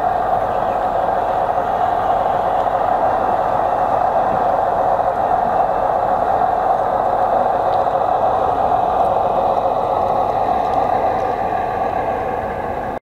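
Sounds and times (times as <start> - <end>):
wheels on rails: 0.0 - 13.0.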